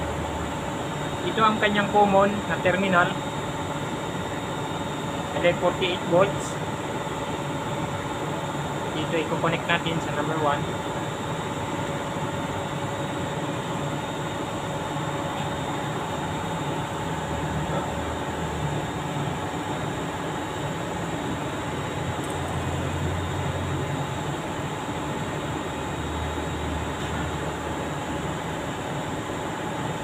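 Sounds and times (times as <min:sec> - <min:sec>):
mechanical hum and rumble: 0:00.0 - 0:30.0.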